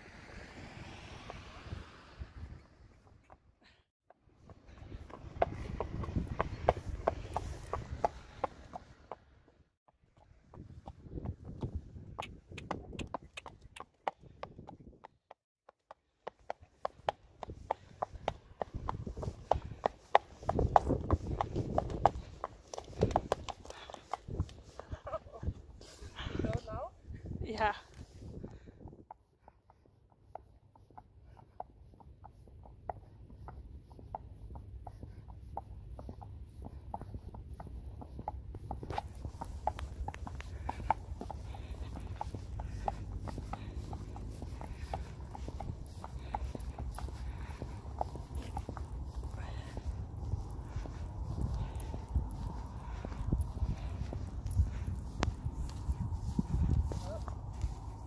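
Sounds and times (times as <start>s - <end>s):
hooves clip-clopping on asphalt: 0.7s - 58.0s.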